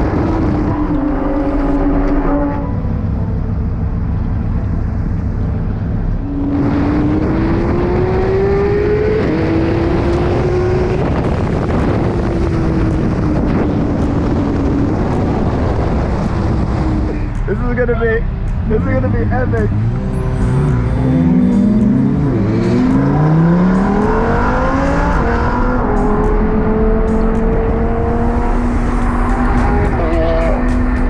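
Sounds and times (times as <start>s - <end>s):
car engine accelerating: 0.0s - 31.0s
low road rumble: 0.0s - 31.0s.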